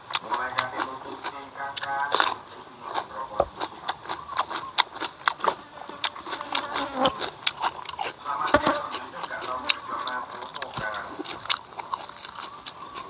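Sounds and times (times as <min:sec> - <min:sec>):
crunching raw cucumber: 0:00.0 - 0:13.0.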